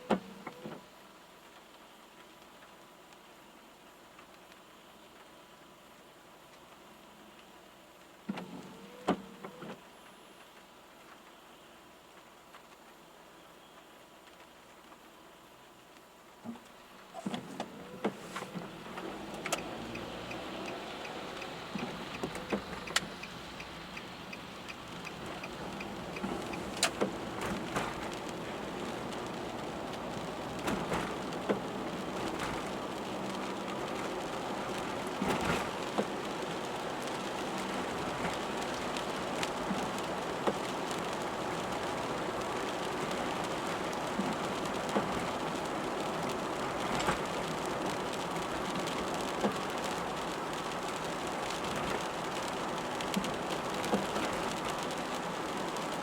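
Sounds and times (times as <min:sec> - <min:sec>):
rain hissing on wet road: 0:00.0 - 0:56.0
raindrops hitting car body: 0:00.0 - 0:56.0.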